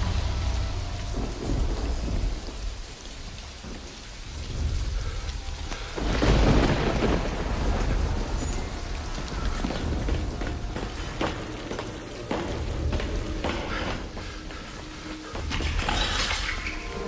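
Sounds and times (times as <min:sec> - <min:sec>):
heavy rain falling: 0:00.0 - 0:17.0
thunder clap and rumble: 0:00.0 - 0:17.0.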